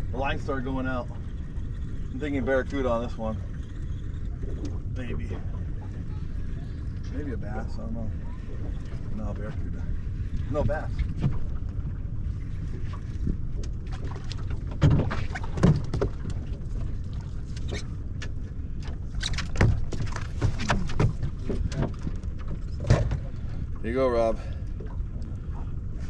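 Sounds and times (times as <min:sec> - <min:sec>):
knocks and clatters on boat: 0:00.0 - 0:26.0
water noise: 0:00.0 - 0:26.0
wind: 0:00.0 - 0:26.0.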